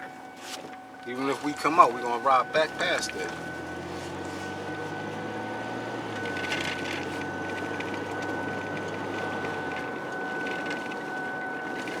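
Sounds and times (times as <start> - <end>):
high-pitched whine: 0.0 - 12.0
low drone: 0.0 - 12.0
road and engine noise in car: 0.0 - 12.0.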